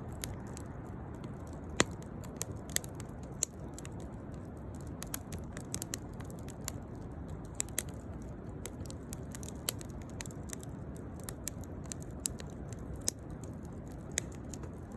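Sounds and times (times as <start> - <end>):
fire crackling and popping: 0.0 - 14.9
rushing of flames: 0.0 - 14.9.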